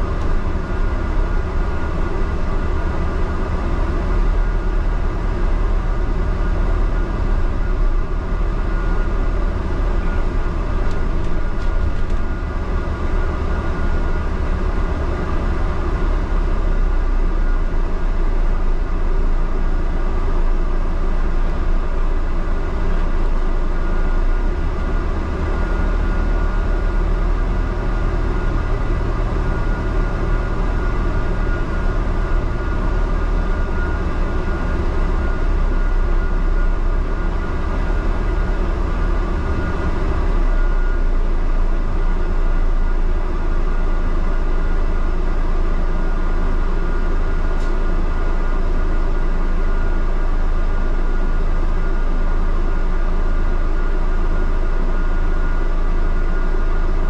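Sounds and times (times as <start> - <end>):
bus interior rumble: 0.0 - 57.0.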